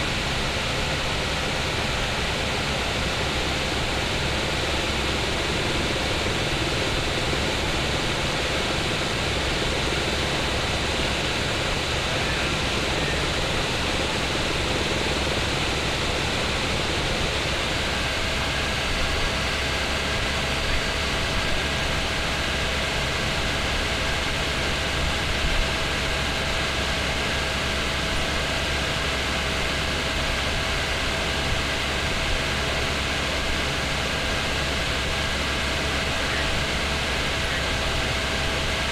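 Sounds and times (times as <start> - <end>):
faint steady whine: 0.0 - 38.9
helicopter drone from cabin: 0.0 - 38.9.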